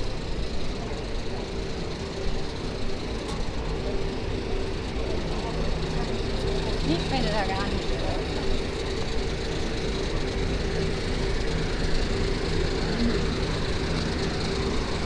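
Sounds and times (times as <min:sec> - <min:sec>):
city street traffic hum: 0:00.0 - 0:15.0.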